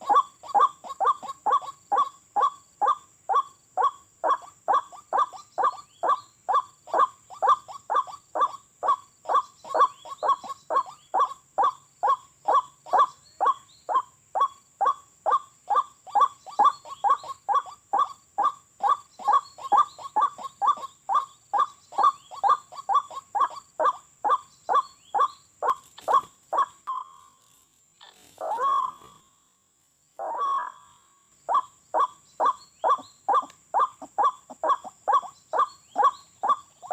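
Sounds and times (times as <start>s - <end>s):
bird calling harsh notes: 0.0s - 29.5s, 30.2s - 36.9s
longer bird call: 0.0s - 29.6s, 30.2s - 36.9s.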